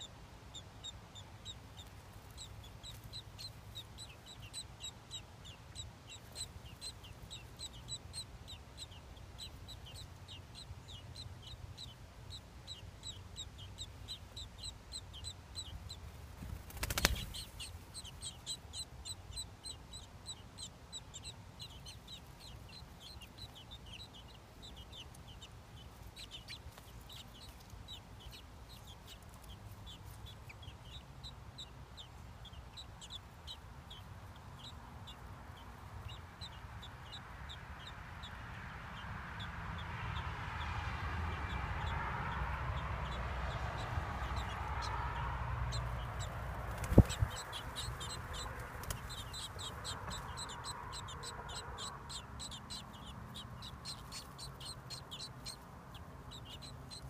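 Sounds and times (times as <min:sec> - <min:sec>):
nestlings peeping: 0:00.0 - 0:57.0.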